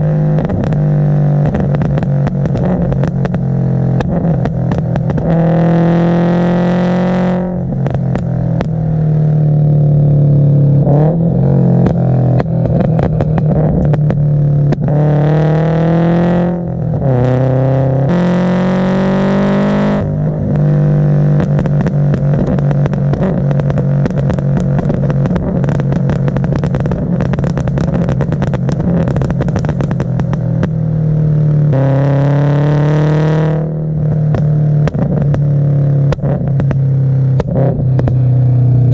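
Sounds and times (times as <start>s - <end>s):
car engine revving: 0.0s - 38.9s
exhaust backfire pops and crackles: 0.0s - 38.9s.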